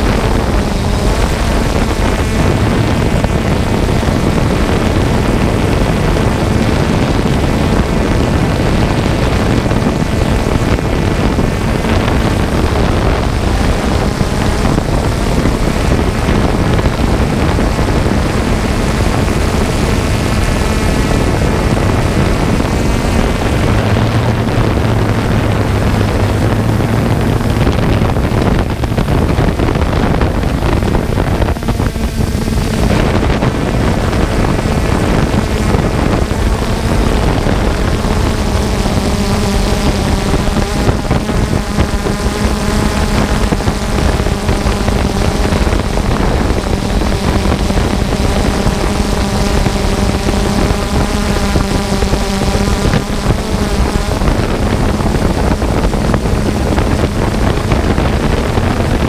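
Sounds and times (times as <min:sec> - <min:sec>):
aircraft propeller droning: 0:00.0 - 0:59.0
high whining tones: 0:00.0 - 0:59.0
wind noise on microphone: 0:00.0 - 0:59.0.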